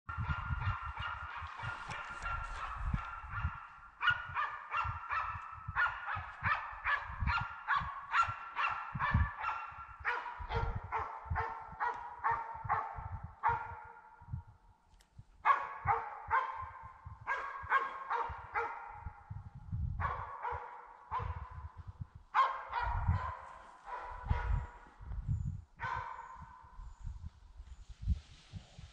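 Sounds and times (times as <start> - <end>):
hunting dogs barking: 0.1 - 14.6, 15.4 - 27.0.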